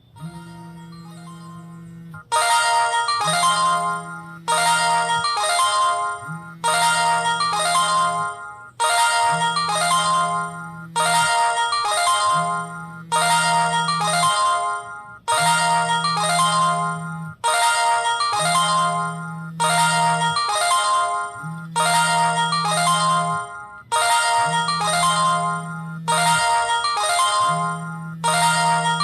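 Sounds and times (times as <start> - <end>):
phone musical ringtone: 0.0 - 29.0.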